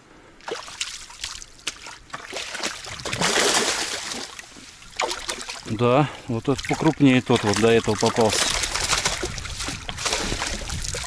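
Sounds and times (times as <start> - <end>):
water splashing and trickling: 0.4 - 11.0.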